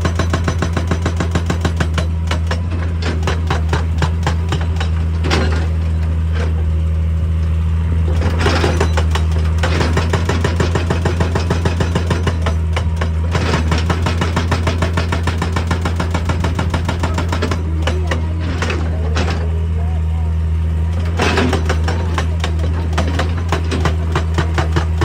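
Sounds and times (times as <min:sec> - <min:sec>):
hydraulic breaker hammering rock: 0:00.0 - 0:06.6, 0:08.1 - 0:19.8, 0:20.9 - 0:25.0
diesel engine running: 0:00.0 - 0:25.0.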